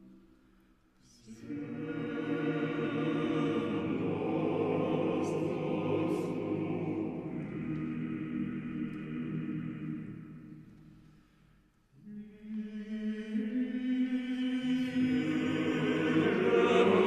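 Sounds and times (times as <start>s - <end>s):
choir singing slow chords: 0.0s - 17.0s.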